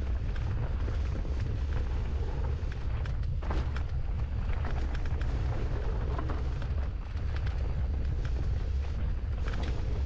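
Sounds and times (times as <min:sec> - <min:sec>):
bike tyres on trail: 0:00.0 - 0:10.0
wind rumbling on microphone: 0:00.0 - 0:10.0.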